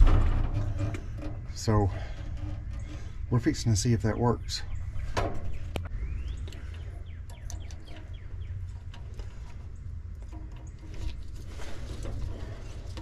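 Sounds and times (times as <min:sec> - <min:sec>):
low steady rumble: 0:00.0 - 0:13.0
songbirds chirping: 0:00.7 - 0:13.0.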